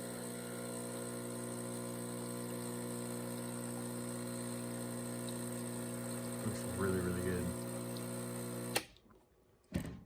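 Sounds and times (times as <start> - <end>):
espresso machine pump humming: 0.0 - 8.9.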